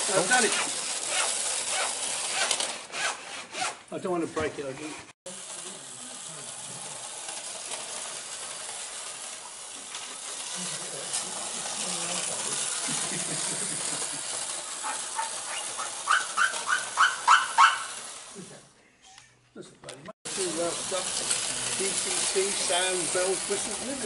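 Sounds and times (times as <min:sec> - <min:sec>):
model locomotive whirring: 0:00.0 - 0:03.5, 0:05.3 - 0:18.5, 0:20.3 - 0:24.0.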